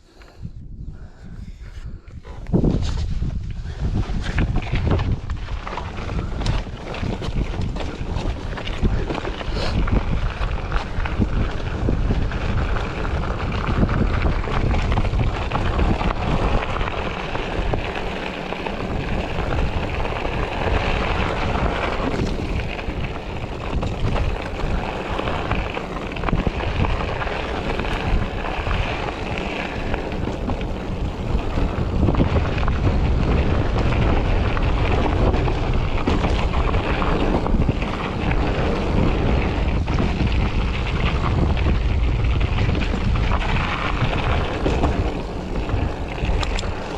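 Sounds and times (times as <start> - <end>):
rolling rumble of bike: 0.0 - 46.9
wind on microphone: 0.0 - 46.9.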